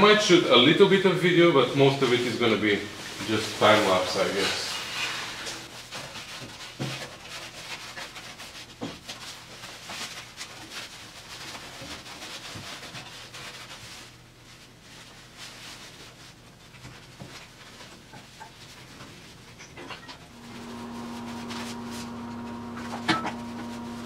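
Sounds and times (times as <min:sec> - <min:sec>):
towels rubbing on metal: 0:00.2 - 0:19.6, 0:20.2 - 0:24.0.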